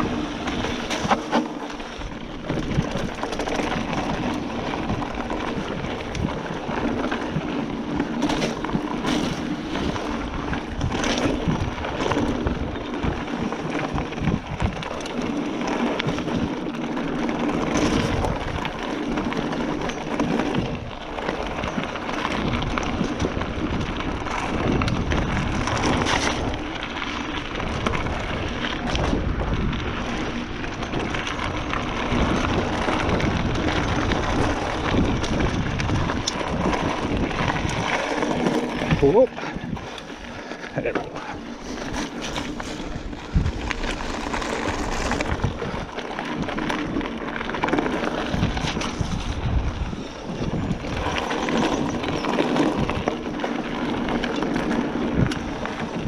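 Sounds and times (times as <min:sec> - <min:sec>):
bike knocking and rattling: 0:00.0 - 0:56.0
bike tyres rushing on trail: 0:00.0 - 0:56.0.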